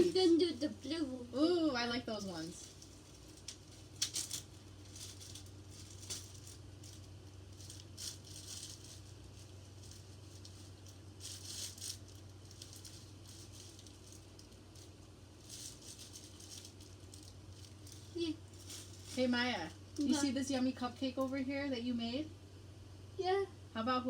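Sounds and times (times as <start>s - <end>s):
small beads rattling: 1.9s - 21.4s.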